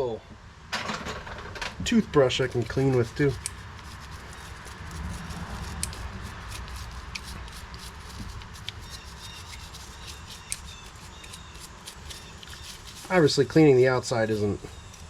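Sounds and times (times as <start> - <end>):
toothbrush bristles rubbing: 2.0 - 15.0.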